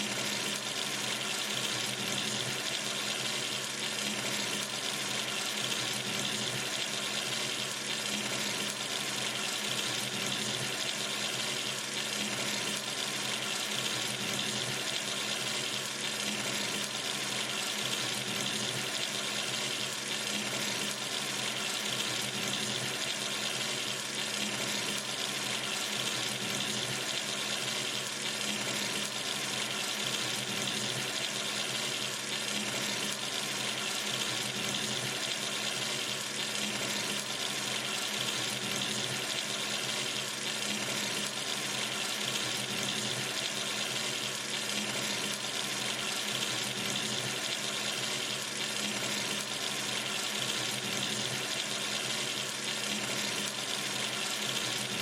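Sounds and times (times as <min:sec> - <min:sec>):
water running from tap: 0:00.0 - 0:55.0.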